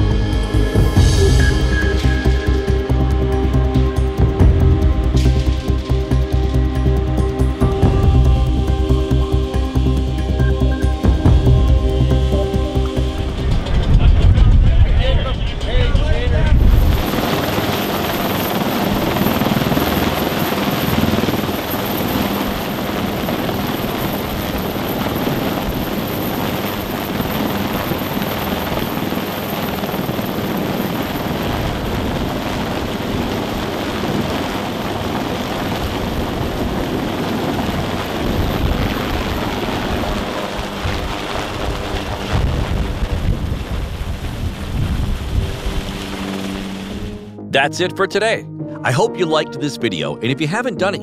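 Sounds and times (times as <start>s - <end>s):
helicopter rotor and turbine noise: 0.0s - 51.0s.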